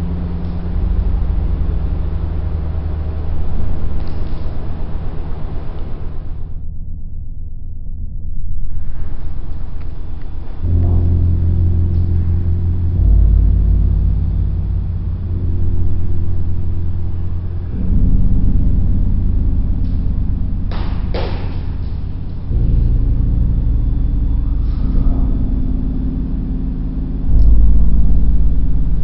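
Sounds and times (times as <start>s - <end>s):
deep rumbling drone: 0.0s - 29.0s.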